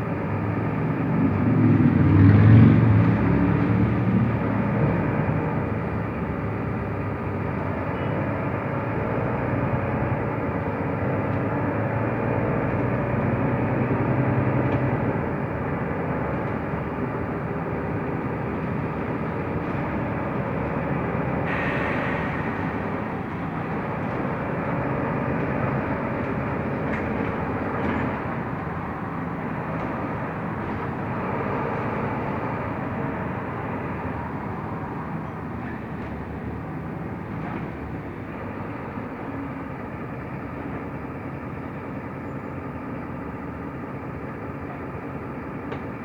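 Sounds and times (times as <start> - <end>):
bus diesel engine: 0.0 - 46.0
road noise: 0.0 - 46.0.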